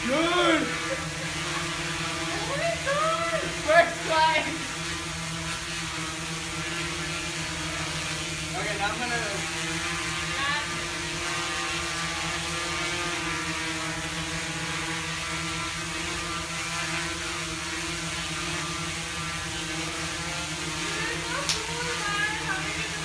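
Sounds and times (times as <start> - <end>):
drone rotors whirring: 0.0 - 23.0.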